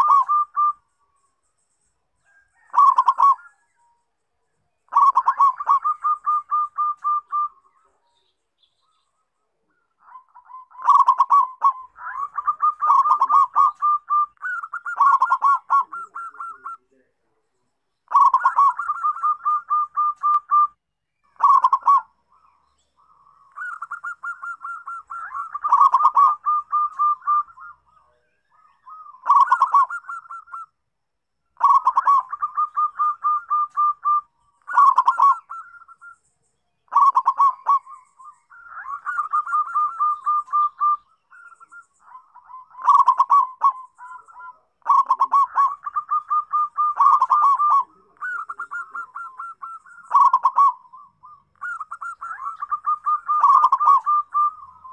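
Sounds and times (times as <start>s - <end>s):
dove cooing: 0.0s - 0.9s, 2.2s - 4.0s, 4.9s - 17.4s, 18.0s - 30.8s, 31.6s - 36.2s, 36.9s - 54.9s.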